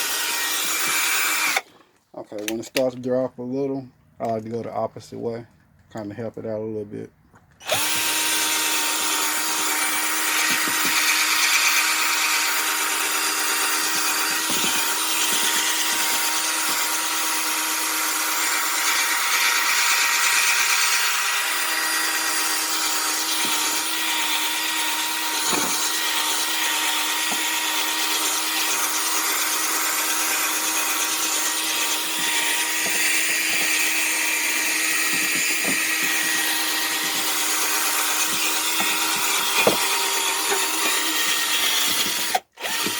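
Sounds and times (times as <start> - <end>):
electric drill motor whine: 0.0 - 1.7, 7.6 - 42.9.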